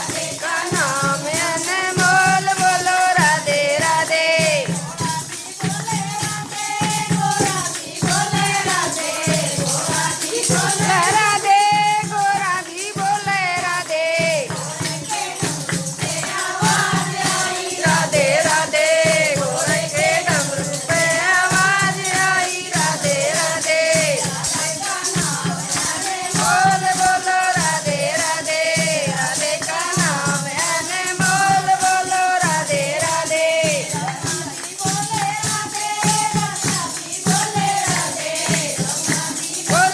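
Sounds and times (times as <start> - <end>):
jingling hand percussion: 0.0 - 39.9
person singing devotional melody: 0.0 - 39.9
steady drum beat: 0.0 - 39.9.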